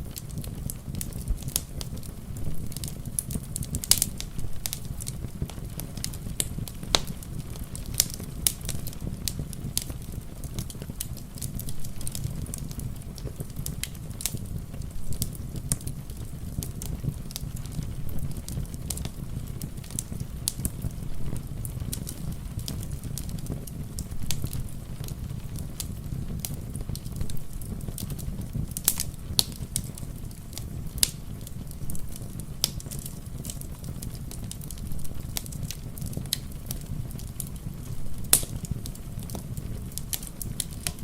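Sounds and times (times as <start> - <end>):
low fire rumble: 0.0 - 41.0
wood fire crackling: 0.0 - 41.0.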